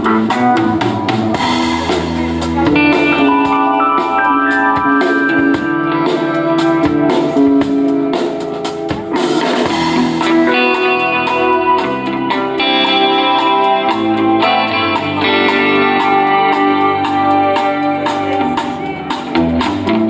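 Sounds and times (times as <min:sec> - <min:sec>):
drum kit beat: 0:00.0 - 0:20.0
guitar held notes: 0:00.0 - 0:20.0
live band playing: 0:00.0 - 0:20.0.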